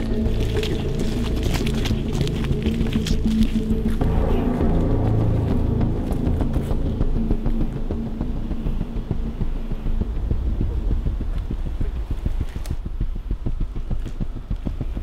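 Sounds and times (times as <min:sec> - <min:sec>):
deep rumble: 0:00.0 - 0:15.0
low throbbing pulse: 0:00.0 - 0:15.0.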